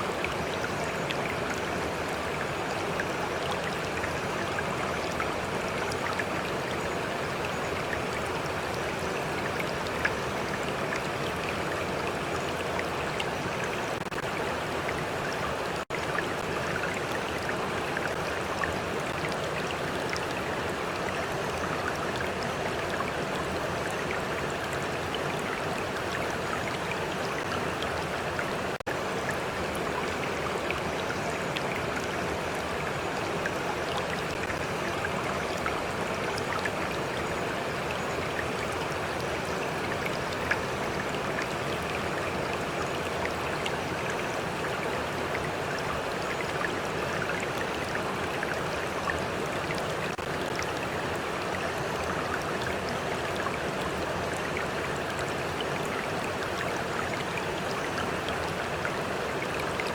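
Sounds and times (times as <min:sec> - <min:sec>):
stream water rushing: 0:00.0 - 0:59.9
water lapping and trickling: 0:00.0 - 0:59.9.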